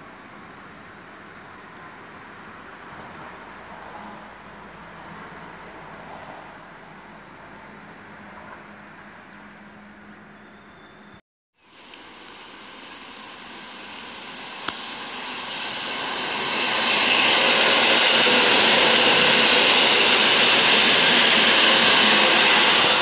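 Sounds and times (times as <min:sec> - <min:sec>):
train rushing on rails: 0:00.0 - 0:23.0.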